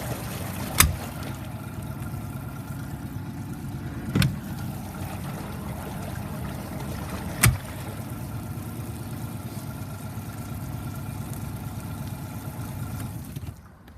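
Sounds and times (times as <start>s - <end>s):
outboard motor idling: 0.0s - 13.9s.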